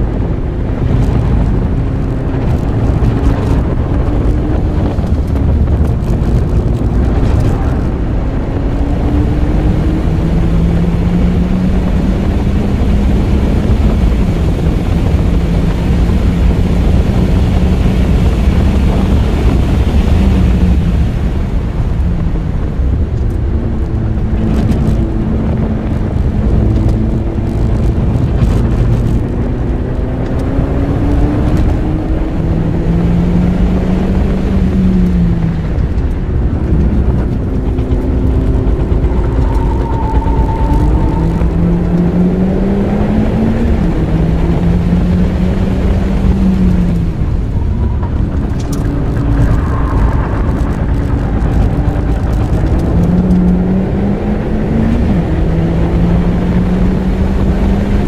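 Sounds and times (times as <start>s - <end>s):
car engine accelerating: 0.0s - 58.0s
wind noise: 0.0s - 58.0s.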